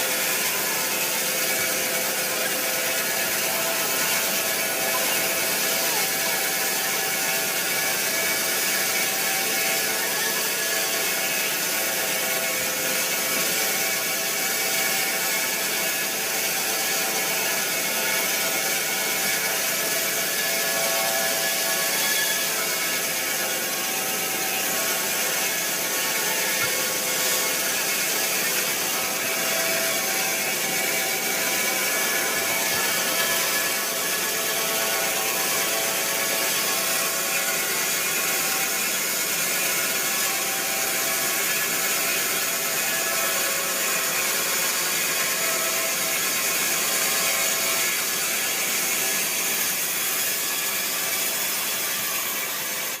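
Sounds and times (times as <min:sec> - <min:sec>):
sawmill saw running: 0:00.0 - 0:53.0
whining saw tones: 0:00.0 - 0:53.0.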